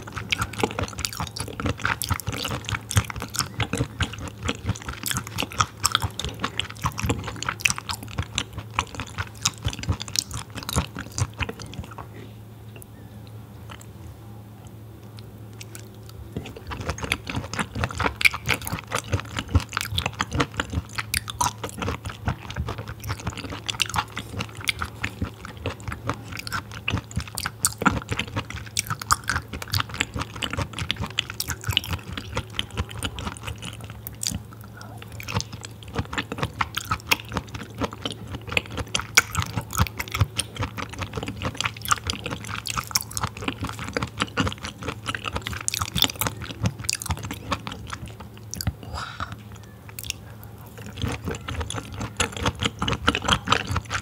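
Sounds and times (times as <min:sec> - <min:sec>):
wet chewing clicks and squishes: 0:00.0 - 0:14.0, 0:14.6 - 0:54.0.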